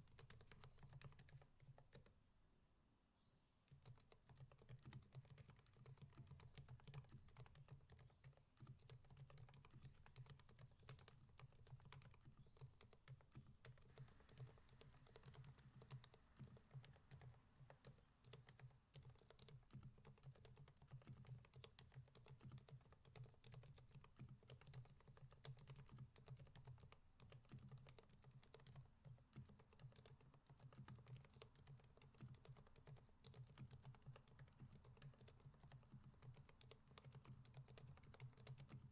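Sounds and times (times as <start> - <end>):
quiet mechanical keyboard typing: 0.0 - 2.2, 3.7 - 38.9.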